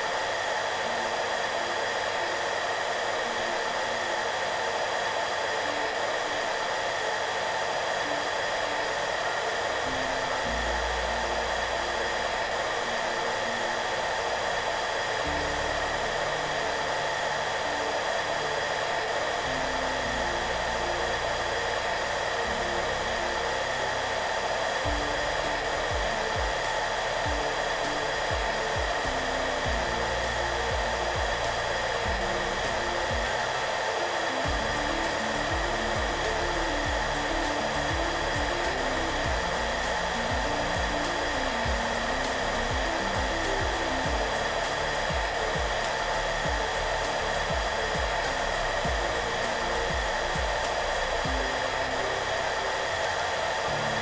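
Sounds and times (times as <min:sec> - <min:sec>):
hair dryer running: 0:00.0 - 0:54.0
soft background music: 0:00.0 - 0:54.0.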